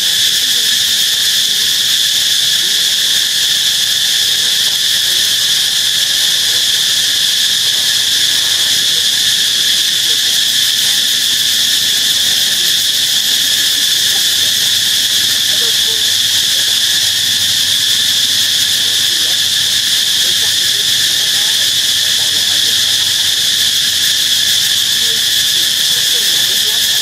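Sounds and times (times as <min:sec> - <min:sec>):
insects chorus droning: 0:00.0 - 0:27.0.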